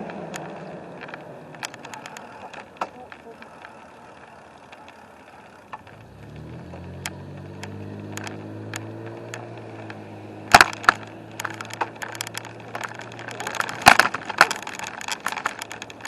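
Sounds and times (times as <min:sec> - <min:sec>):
clicks and rattles: 0:00.0 - 0:16.0
low motor hum: 0:00.0 - 0:16.0.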